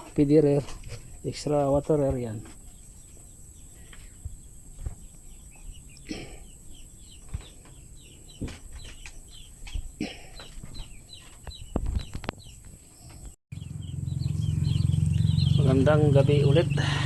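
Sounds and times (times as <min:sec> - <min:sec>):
chicks peeping: 0:00.2 - 0:17.0.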